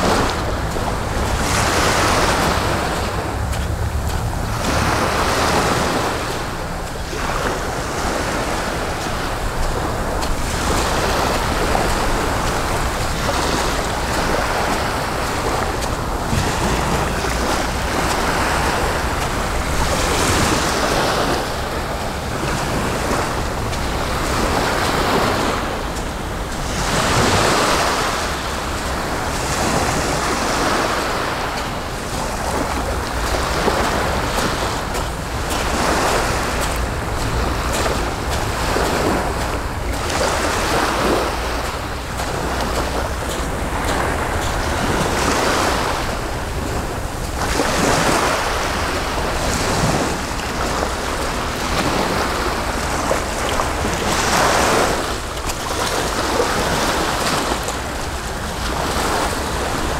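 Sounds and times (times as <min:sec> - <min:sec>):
low wind rumble on microphone: 0:00.0 - 0:59.9
sea waves washing onto shore: 0:00.0 - 0:59.9.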